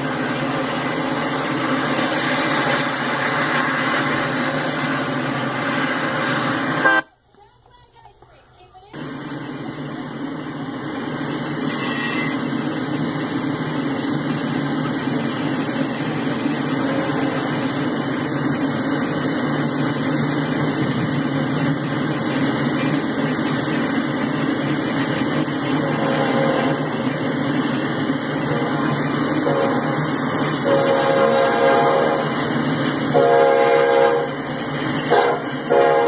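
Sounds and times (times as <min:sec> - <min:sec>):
freight train wheels rumbling on rails: 0:00.0 - 0:36.0.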